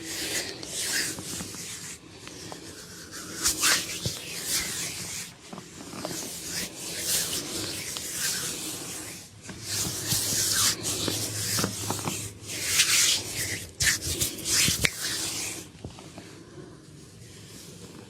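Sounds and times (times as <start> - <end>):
palms rubbing over skin: 0.0 - 16.3.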